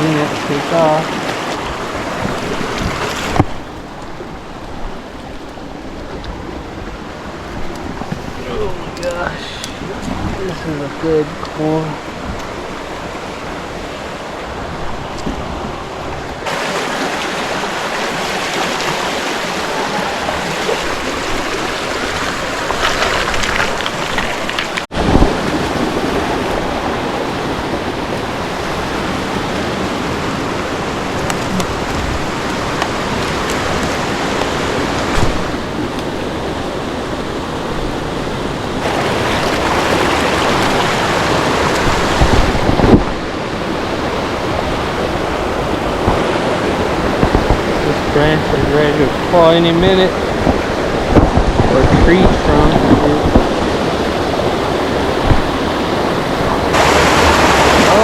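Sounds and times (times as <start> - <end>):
rushing creek water: 0.0 - 58.0.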